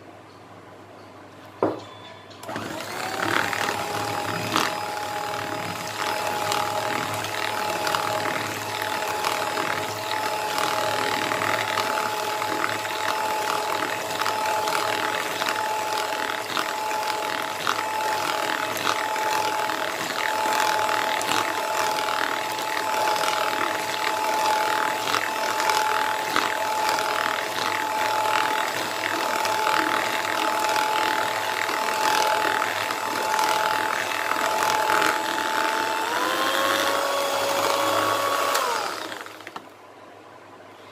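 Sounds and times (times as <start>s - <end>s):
electric hand mixer whining: 2.4s - 39.7s.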